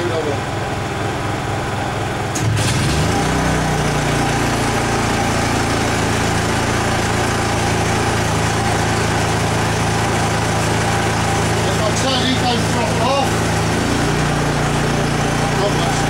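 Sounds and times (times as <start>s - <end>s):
generator engine running steadily: 0.0s - 16.0s.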